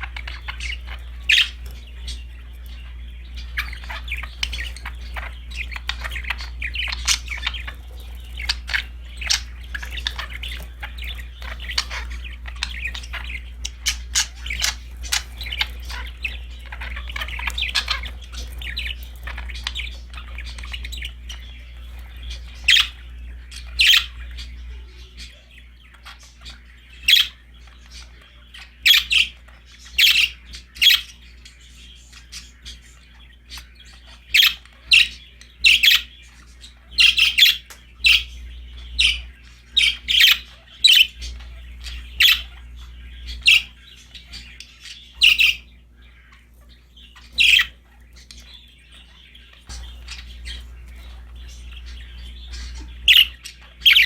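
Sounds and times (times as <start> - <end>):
budgerigars chattering: 0.0 - 54.0
loud sharp bird chirps: 0.0 - 54.0.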